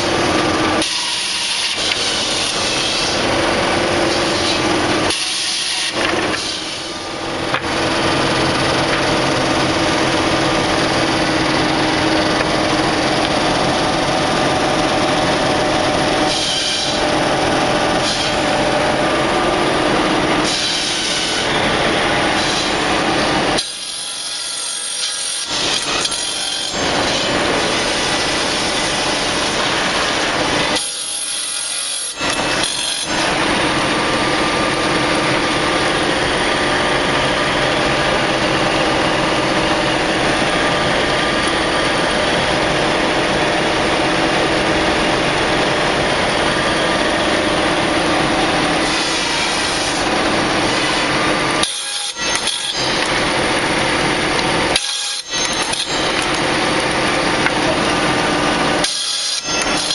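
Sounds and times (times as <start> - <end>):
blades cutting wood: 0.0 - 59.9
machine hum: 0.0 - 59.9.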